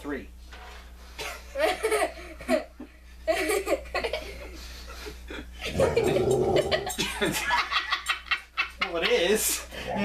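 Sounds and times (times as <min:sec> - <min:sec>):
people laughing: 0:01.2 - 0:09.6.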